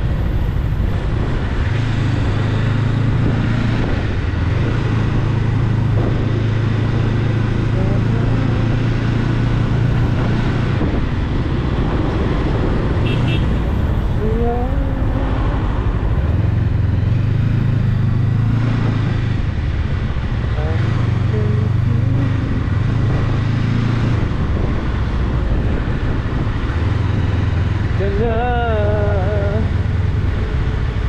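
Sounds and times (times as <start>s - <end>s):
motorcycle engine drone: 0.0s - 31.0s
wind and road noise: 0.0s - 31.0s.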